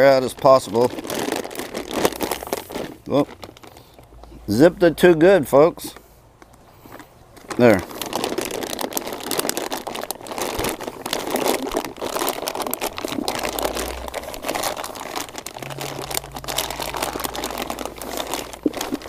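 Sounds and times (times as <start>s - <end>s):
plastic bag crinkling: 0.0s - 4.1s, 6.9s - 19.0s.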